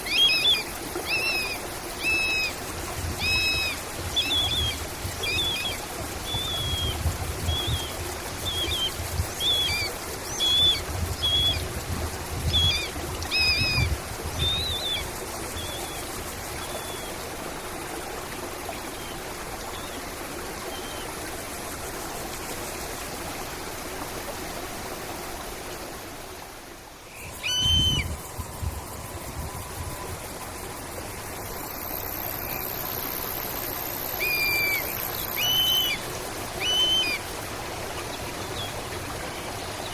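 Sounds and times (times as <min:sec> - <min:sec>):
trickling stream: 0:00.0 - 0:39.9.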